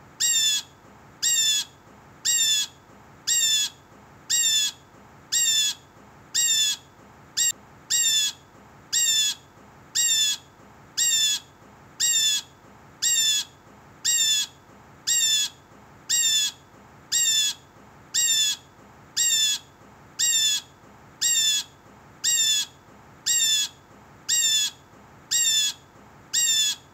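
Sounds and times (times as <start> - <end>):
blue jay jeer calls: 0.2 - 5.8, 6.4 - 9.4, 10.0 - 17.6, 18.2 - 26.9.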